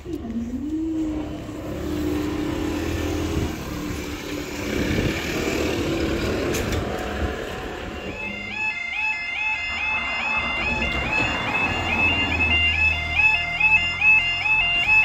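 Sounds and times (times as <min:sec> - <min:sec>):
car engine: 0:00.0 - 0:15.0.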